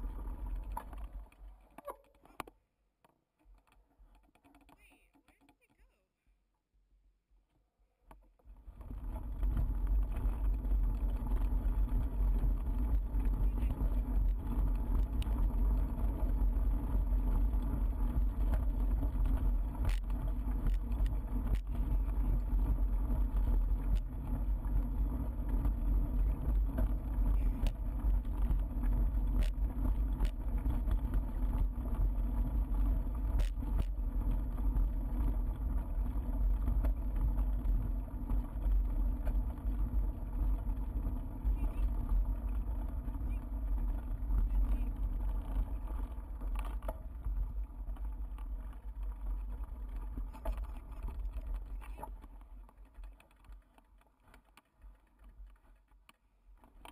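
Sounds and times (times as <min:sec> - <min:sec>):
bicycle tyres on gravel: 0:00.0 - 0:02.4, 0:08.3 - 0:56.9
bicycle clicks and rattles: 0:00.0 - 0:05.8, 0:08.0 - 0:56.9
wind rumble on microphone: 0:08.5 - 0:55.9.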